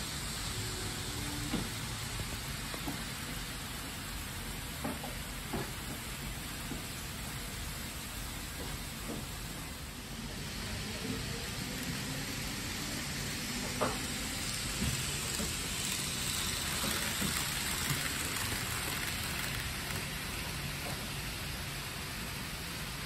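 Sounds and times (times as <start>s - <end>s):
model trains rolling: 0.0s - 23.0s.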